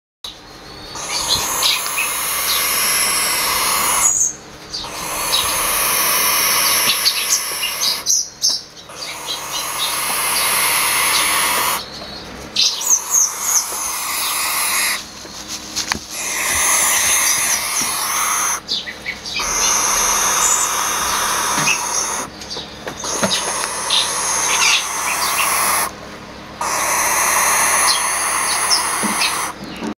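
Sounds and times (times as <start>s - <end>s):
owlets hissing: 0.9s - 8.2s, 8.9s - 11.9s, 12.8s - 18.7s, 19.4s - 22.4s, 23.0s - 26.0s, 26.6s - 29.6s.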